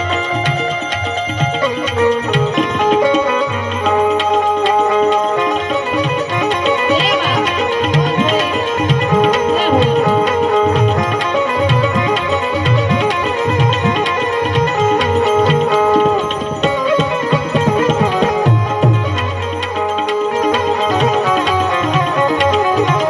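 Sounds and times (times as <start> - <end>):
long held melodic tones: 0.0 - 23.0
tabla strokes: 0.0 - 23.0.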